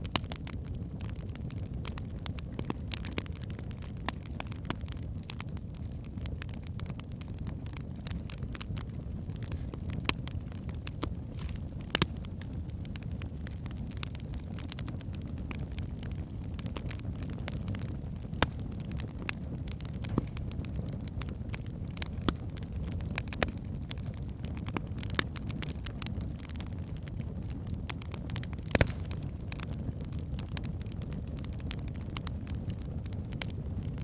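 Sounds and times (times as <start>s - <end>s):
logs crackling and popping: 0.0s - 34.0s
low rumble of flames: 0.0s - 34.0s.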